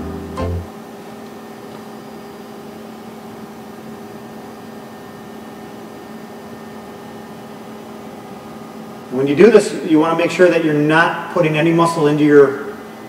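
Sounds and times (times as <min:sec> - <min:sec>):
room hum with hiss: 0:00.0 - 0:13.0.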